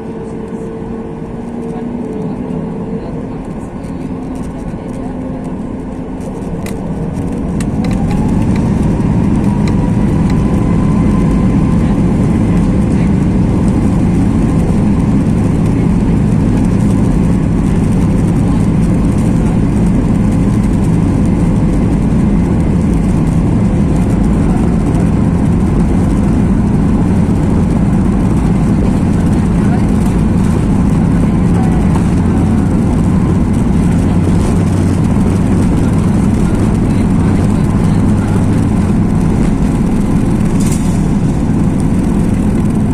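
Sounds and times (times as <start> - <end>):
jet engines spooling up: 0.0 - 42.9.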